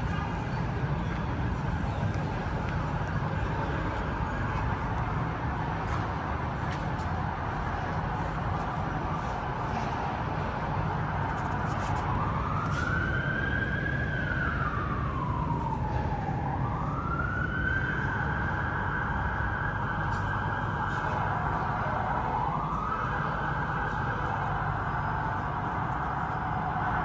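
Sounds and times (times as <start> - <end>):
emergency vehicle siren wailing: 0.0 - 27.0.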